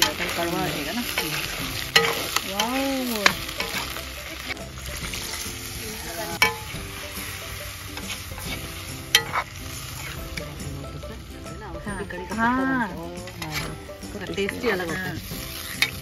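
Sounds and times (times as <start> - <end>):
metal spoon scraping through food: 0.0 - 10.6, 13.2 - 16.0
spoon clacking against pan: 0.0 - 10.7, 13.2 - 16.0
food sizzling in a pan: 0.0 - 16.0.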